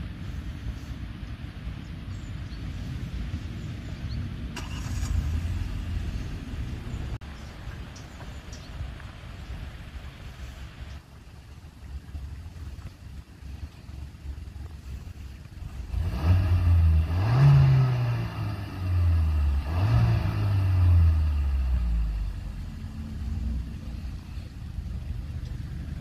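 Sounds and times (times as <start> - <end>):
car engine revving and idling: 0.0 - 9.1, 12.0 - 26.0.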